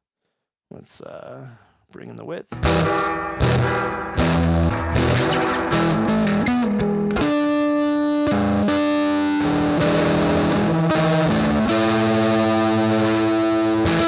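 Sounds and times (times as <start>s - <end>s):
distorted electric guitar chords: 2.5s - 14.0s.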